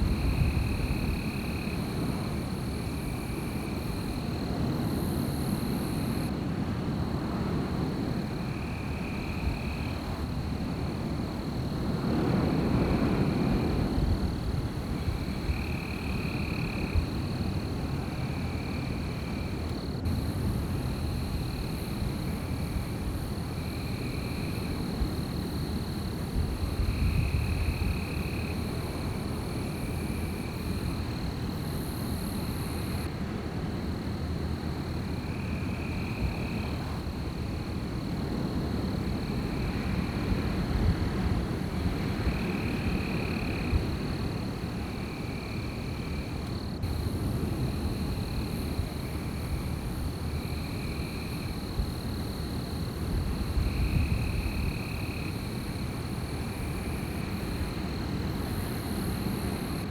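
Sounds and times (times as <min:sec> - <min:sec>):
wind with low rumble: 0:00.0 - 0:59.9.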